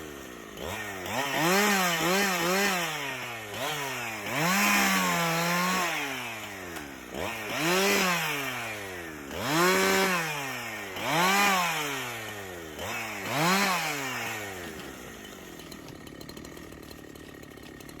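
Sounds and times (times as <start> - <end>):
small motor revving: 0.0 - 18.0.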